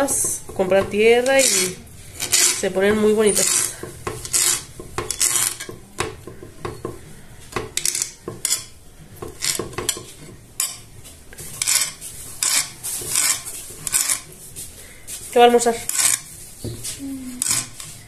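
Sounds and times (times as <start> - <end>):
utensils clinking and scraping dishes: 0.0 - 14.4, 15.3 - 18.0.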